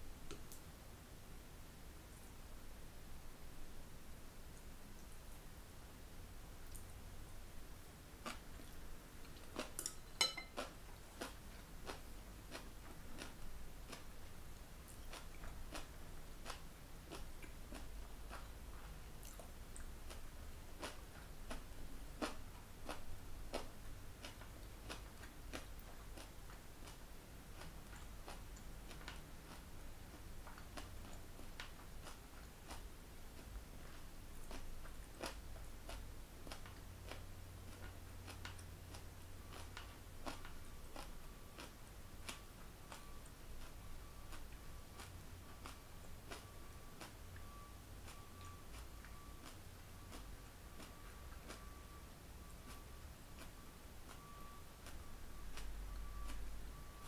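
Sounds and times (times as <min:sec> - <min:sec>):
person chewing food: 0:07.8 - 0:57.0.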